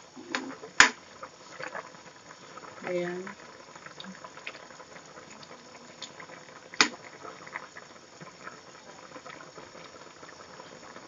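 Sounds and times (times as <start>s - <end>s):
soup bubbling and popping: 0.0s - 11.0s.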